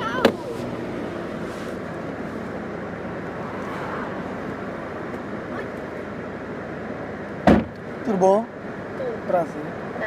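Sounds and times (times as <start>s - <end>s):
car idling: 0.0s - 10.0s
street traffic: 0.0s - 10.0s.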